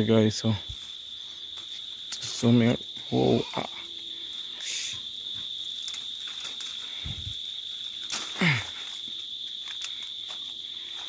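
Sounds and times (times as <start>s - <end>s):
insects chirring: 0.0s - 11.0s
leaves and twigs rustling: 0.0s - 11.0s.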